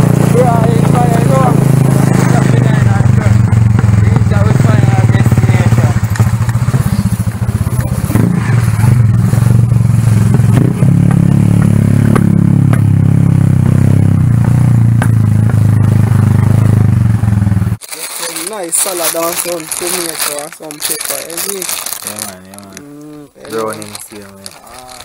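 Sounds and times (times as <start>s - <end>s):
small motorcycle engine running: 0.0s - 20.3s.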